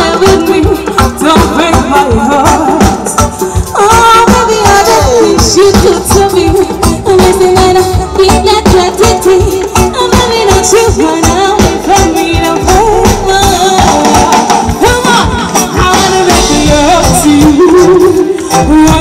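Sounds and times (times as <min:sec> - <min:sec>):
djembe hand drums: 0:00.0 - 0:19.0
drum kit: 0:00.0 - 0:19.0
electric guitars: 0:00.0 - 0:19.0
woman singing into microphone: 0:00.0 - 0:19.0.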